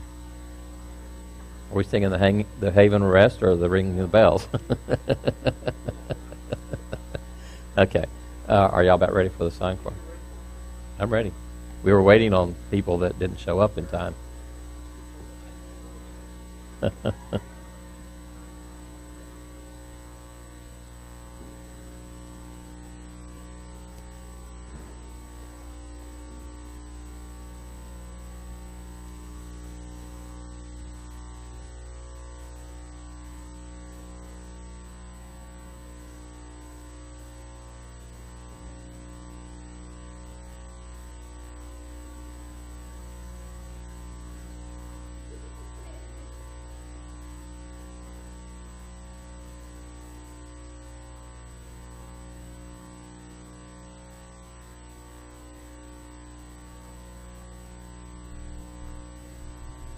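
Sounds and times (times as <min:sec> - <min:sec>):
electrical mains hum: 0:00.0 - 0:59.9.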